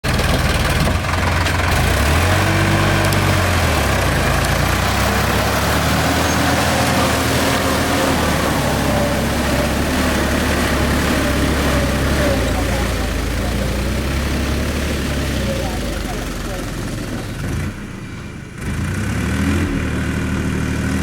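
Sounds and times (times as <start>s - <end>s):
tractor diesel engine revving: 0.0s - 21.0s.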